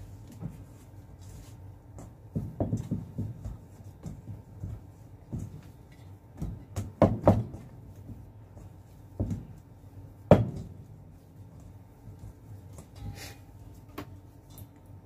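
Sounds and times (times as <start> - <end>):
dough being kneaded by hand: 0.0 - 15.0.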